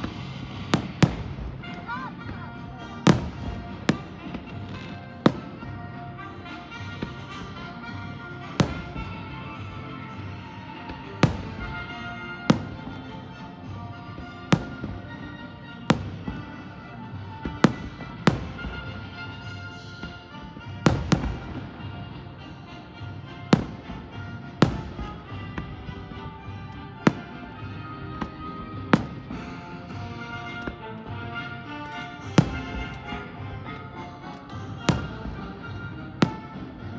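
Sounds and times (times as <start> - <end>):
fireworks bangs: 0.0 - 2.0, 3.0 - 13.4, 14.0 - 36.9
fireworks crackle: 0.0 - 2.4, 3.1 - 30.7, 31.6 - 36.9
music playing: 0.0 - 36.9.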